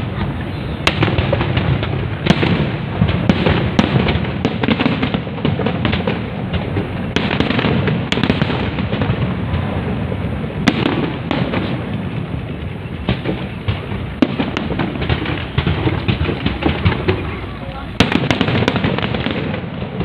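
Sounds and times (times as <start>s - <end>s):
fireworks bursts and crackles: 0.0s - 20.0s
sharp firework pops: 0.0s - 20.0s.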